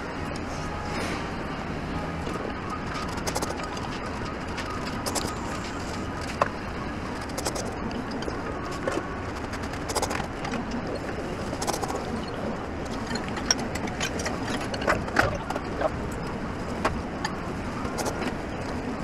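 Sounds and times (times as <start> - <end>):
restaurant background hum: 0.0 - 19.0.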